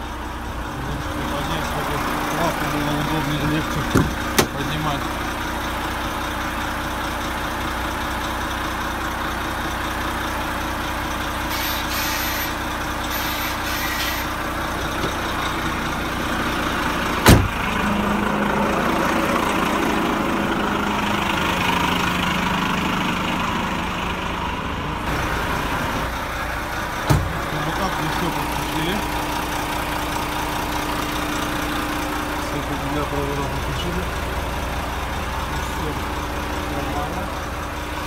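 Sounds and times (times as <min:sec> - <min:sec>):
truck diesel engine idling: 0:00.0 - 0:38.0.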